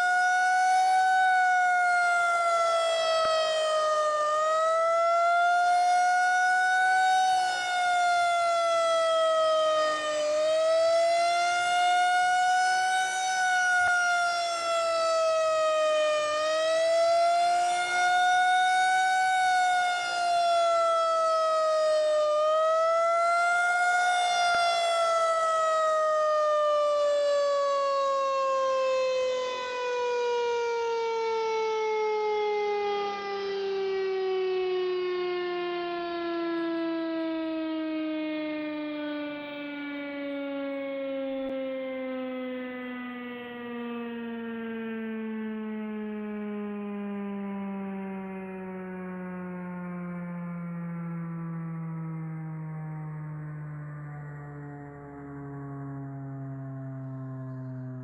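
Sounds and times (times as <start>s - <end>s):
rotating siren rising and falling: 0.0s - 58.0s.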